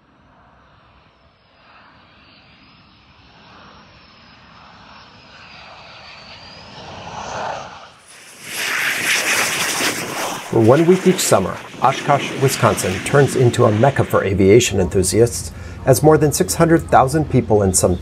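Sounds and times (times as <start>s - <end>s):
aircraft engine drone with whine: 0.0s - 18.0s
loud aircraft roar: 0.0s - 18.0s.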